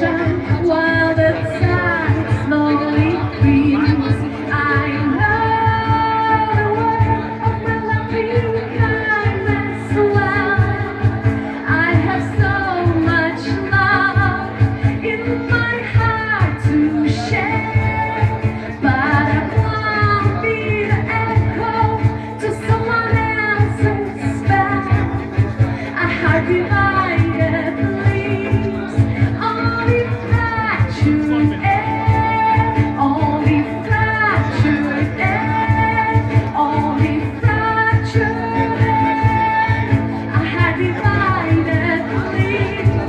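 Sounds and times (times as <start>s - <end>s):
person singing: 0.0s - 43.0s.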